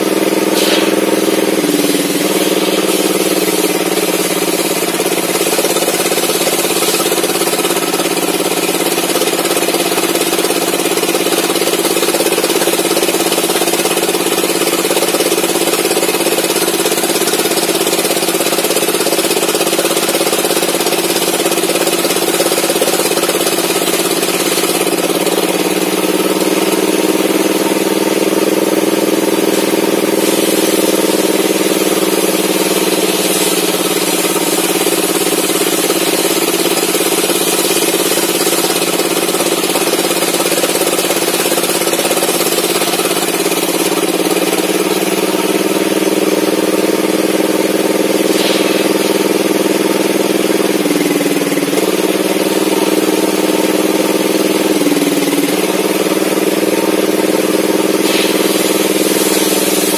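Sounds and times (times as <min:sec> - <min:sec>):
engine-driven table saw cutting wood: 0:00.0 - 0:59.9.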